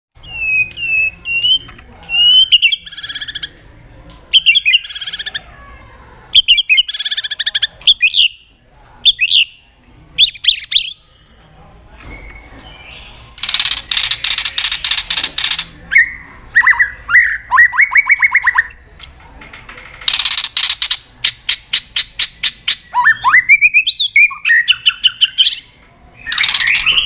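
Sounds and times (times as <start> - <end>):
bird singing varied song: 0.2 - 3.6, 4.3 - 5.5, 6.3 - 11.3, 12.0 - 19.2, 20.1 - 27.0.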